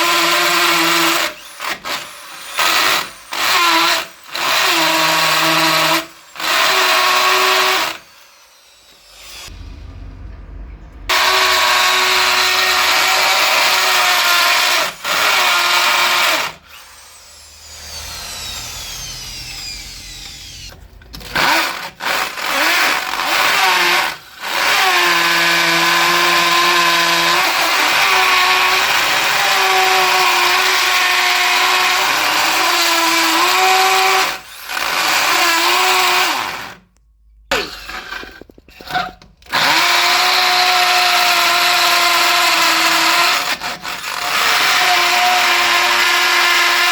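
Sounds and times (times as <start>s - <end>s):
electric drill boring into concrete: 0.0s - 9.6s, 11.1s - 36.8s, 37.5s - 46.9s.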